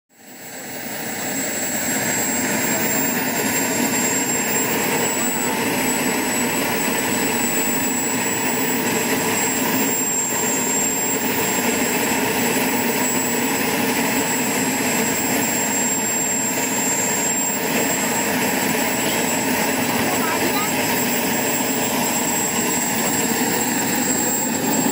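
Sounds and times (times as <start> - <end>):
high turbine whine: 0.1 - 24.9
model jet turbine rushing: 0.1 - 24.9.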